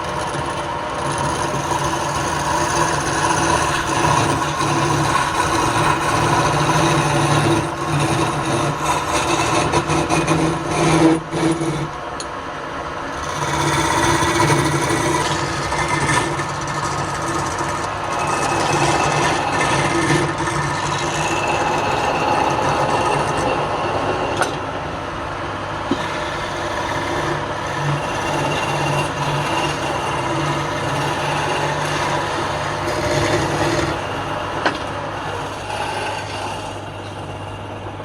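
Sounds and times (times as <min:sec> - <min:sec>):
tool scraping spinning wood: 0:00.0 - 0:38.0
wood lathe motor hum: 0:00.0 - 0:38.0.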